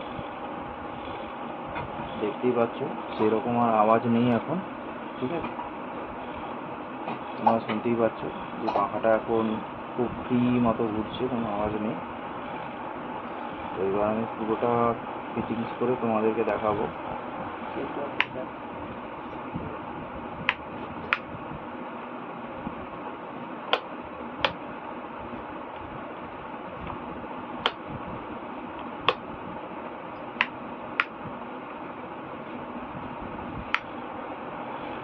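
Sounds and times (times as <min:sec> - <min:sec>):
wall fan whirring: 0:00.0 - 0:35.0.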